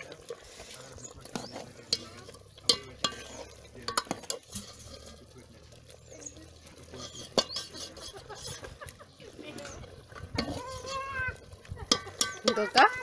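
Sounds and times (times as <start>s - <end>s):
ladle clacking on pot: 0.0s - 13.0s
ladle stirring in metal pot: 0.0s - 13.0s.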